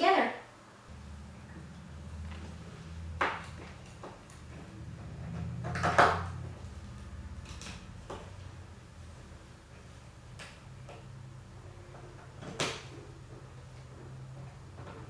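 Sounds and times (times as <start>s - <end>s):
low hum: 0.8s - 15.0s.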